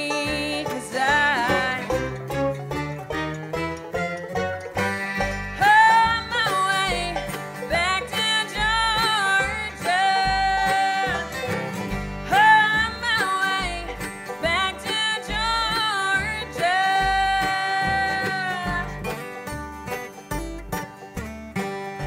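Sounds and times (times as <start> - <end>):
bluegrass band playing: 0.0 - 22.0
upright bass beat: 0.1 - 22.0.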